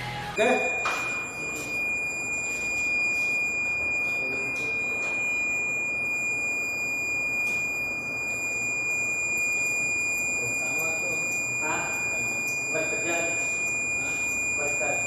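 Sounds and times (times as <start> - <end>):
fire alarm buzzer: 0.0 - 15.0.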